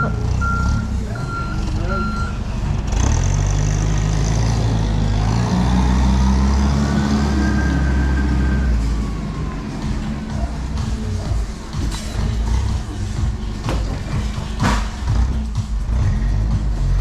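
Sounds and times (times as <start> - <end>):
heavy vehicle engine revving: 0.0 - 17.0.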